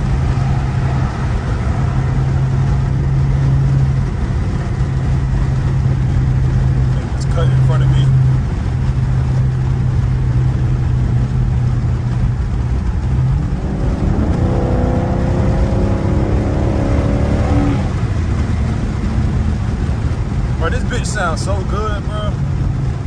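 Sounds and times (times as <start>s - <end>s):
car engine accelerating: 0.0s - 23.0s
car engine droning in cabin: 0.0s - 23.0s.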